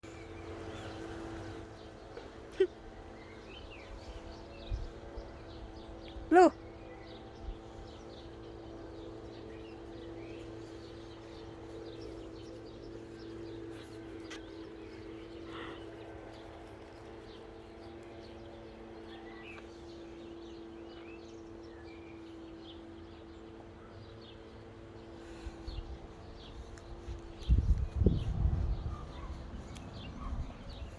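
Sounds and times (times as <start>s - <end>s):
small birds chirping: 0.0s - 30.9s
steady low hum: 0.0s - 30.9s.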